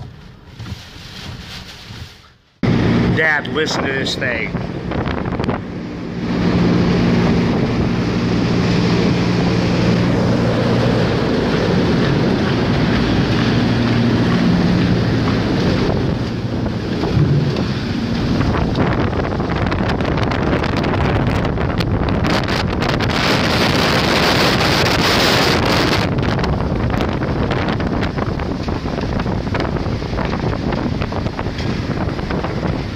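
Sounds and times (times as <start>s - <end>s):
wind buffeting microphone: 0.0s - 32.9s
wind rushing: 0.0s - 32.9s
low steady drone: 2.6s - 3.6s, 4.2s - 32.9s.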